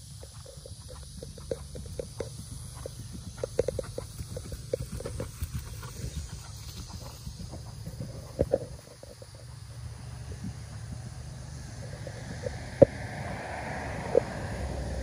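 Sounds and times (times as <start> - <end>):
horse hoofbeats on grass: 0.0 - 13.4.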